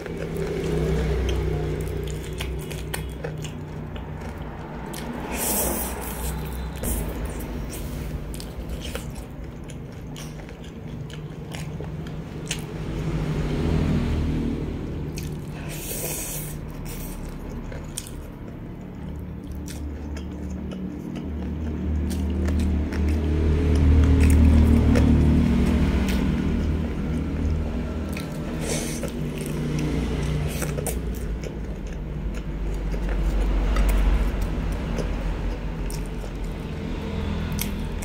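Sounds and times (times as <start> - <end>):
chewing crispy food: 0.0 - 14.2, 15.1 - 38.0.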